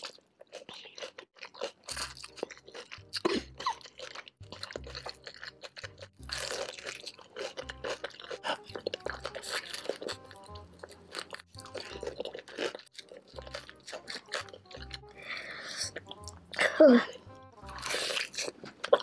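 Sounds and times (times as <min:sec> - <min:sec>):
crunching and chewing fried chicken: 0:00.0 - 0:19.0.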